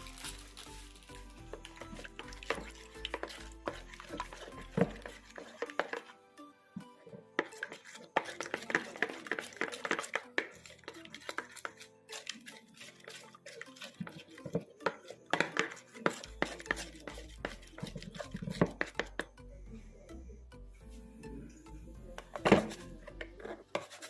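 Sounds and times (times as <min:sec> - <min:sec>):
utensil stirring in a bowl: 0:00.0 - 0:06.2, 0:06.8 - 0:19.4, 0:22.0 - 0:24.0.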